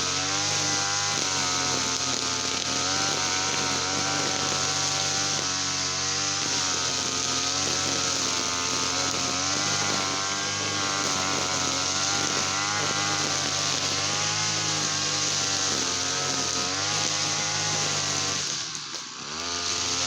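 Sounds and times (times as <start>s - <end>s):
small two-stroke engine running: 0.0s - 20.0s.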